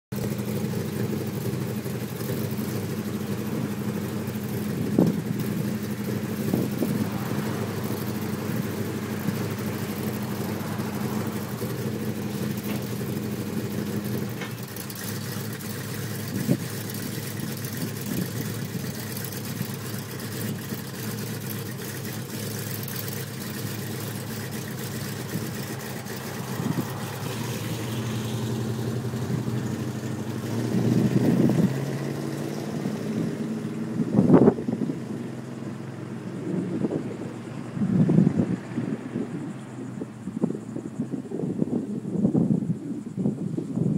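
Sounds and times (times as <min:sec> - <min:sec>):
car engine idling with blips: 0:00.0 - 0:43.9.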